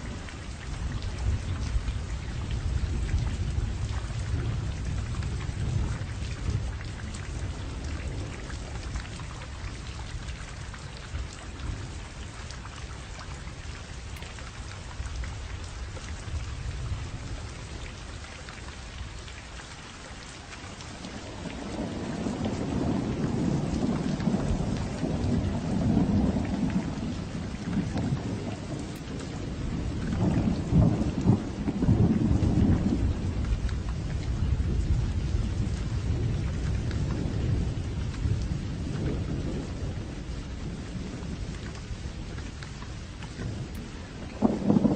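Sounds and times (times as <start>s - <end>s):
rolling thunder: 0.0s - 12.3s, 20.9s - 44.9s
steady rain: 0.0s - 44.9s.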